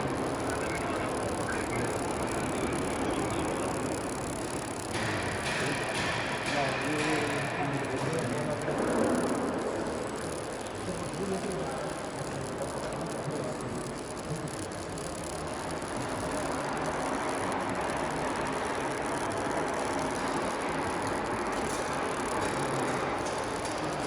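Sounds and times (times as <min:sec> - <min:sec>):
roll forming machine running: 0:00.0 - 0:24.0.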